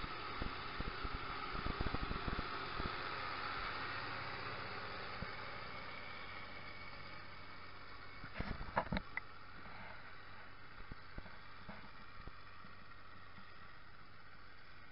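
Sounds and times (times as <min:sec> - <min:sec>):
steady hiss: 0:00.0 - 0:14.9
tractor diesel engine under load: 0:00.0 - 0:14.9.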